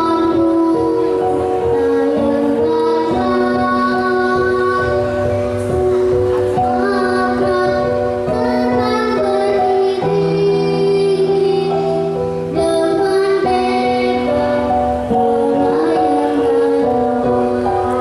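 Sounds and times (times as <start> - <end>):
girl singing children's song: 0.0 - 18.0
instrumental accompaniment: 0.0 - 18.0.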